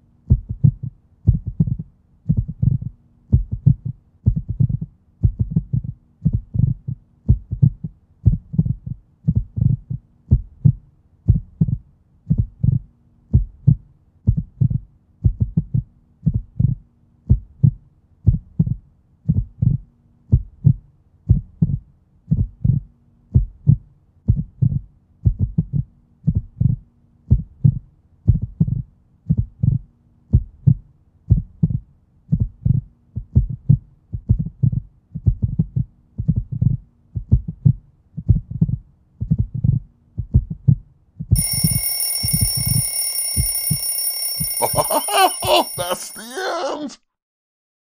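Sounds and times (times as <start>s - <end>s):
heartbeat thumps: 0.0s - 45.9s.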